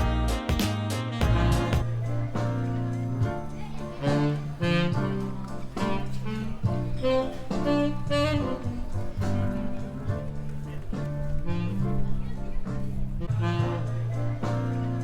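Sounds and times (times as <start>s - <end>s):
instrumental jazz music: 0.0s - 15.0s.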